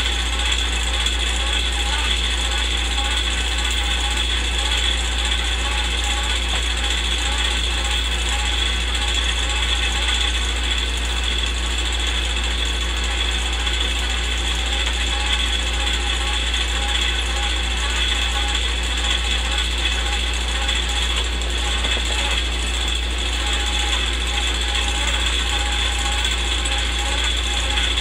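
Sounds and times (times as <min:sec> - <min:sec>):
film projector whirr and clatter: 0:00.0 - 0:28.0.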